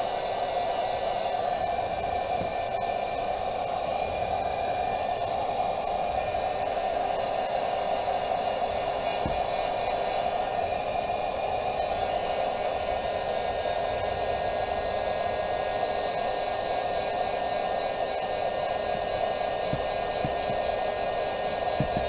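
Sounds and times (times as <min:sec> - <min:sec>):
heat gun blowing hum: 0:00.0 - 0:22.0.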